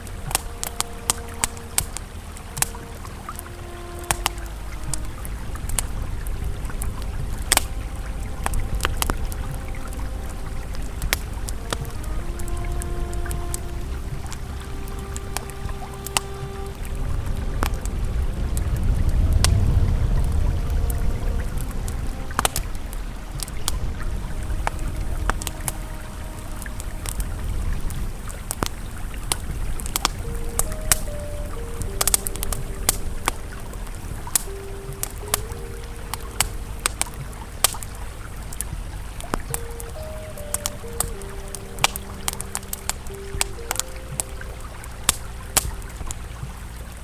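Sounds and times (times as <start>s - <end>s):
campfire crackling and popping: 0.0s - 47.0s
river flowing: 0.0s - 47.0s
soft sustained ambient tones: 0.0s - 47.0s.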